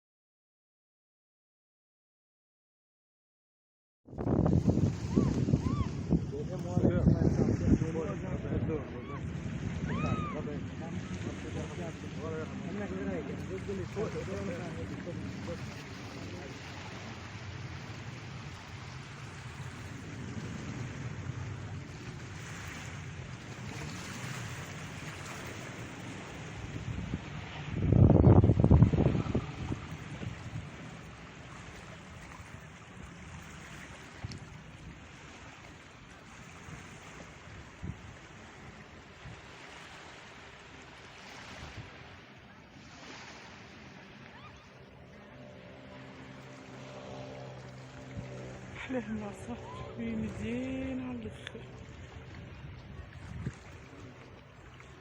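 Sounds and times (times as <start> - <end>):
wind buffeting microphone: 4.1 - 40.2, 41.4 - 55.0
sea waves washing ashore: 4.2 - 55.0.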